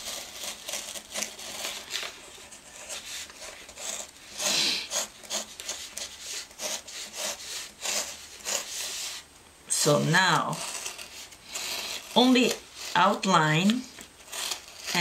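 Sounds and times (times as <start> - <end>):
pen scratching on paper: 0.0 - 1.8, 2.6 - 9.2, 10.3 - 13.2, 14.3 - 15.0.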